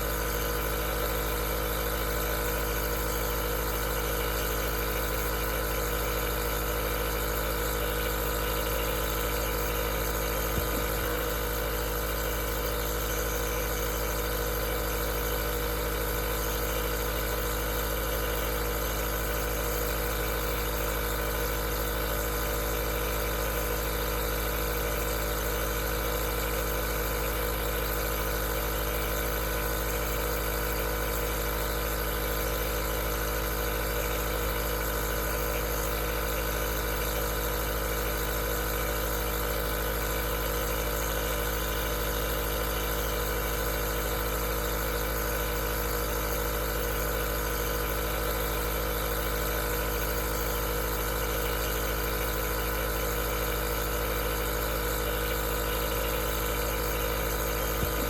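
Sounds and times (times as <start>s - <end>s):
nebulizer motor humming: 0.0s - 58.0s.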